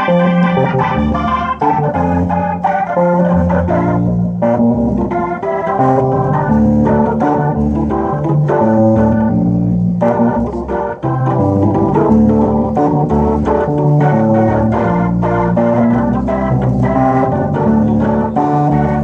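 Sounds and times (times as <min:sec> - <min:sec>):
bass line: 0:00.0 - 0:19.0
electronic keyboard chords: 0:00.0 - 0:19.0.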